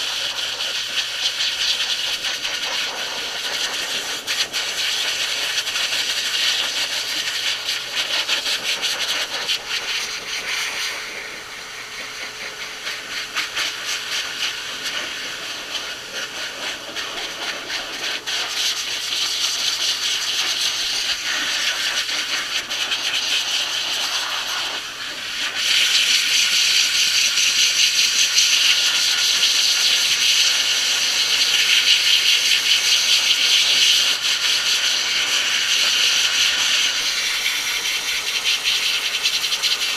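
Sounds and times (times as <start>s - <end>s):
blow dryer rushing air: 0.0s - 39.9s.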